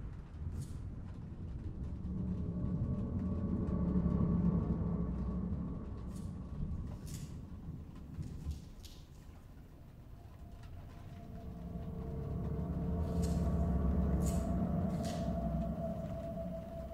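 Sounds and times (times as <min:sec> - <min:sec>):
low ominous rumbling drone: 0:00.0 - 0:16.9.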